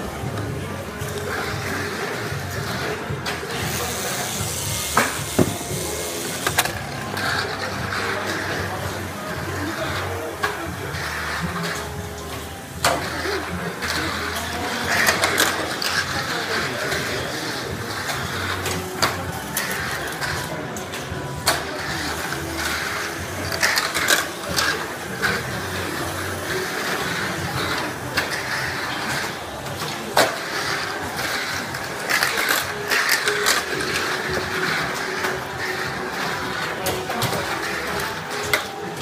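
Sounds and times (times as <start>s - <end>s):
rollers rattling on track walls: 0.0s - 39.0s
toy car motor whirring: 0.2s - 39.0s.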